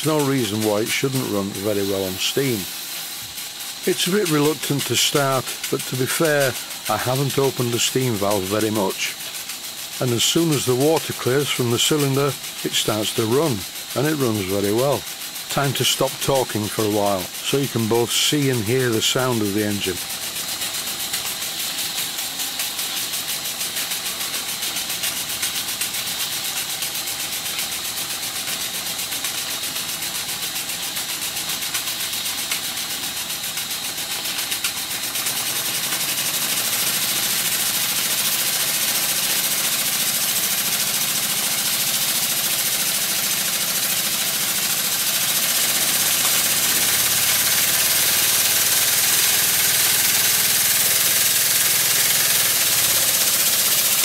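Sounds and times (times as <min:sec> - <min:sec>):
steam engine exhaust beat: 0:00.0 - 0:54.0
steam hissing: 0:00.0 - 0:54.0.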